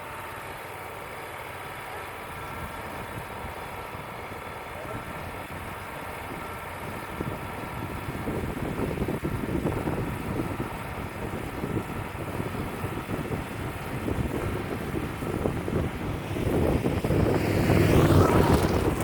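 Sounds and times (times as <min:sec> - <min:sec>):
sawmill running: 0:00.0 - 0:19.0
wind buffeting microphone: 0:02.4 - 0:19.0.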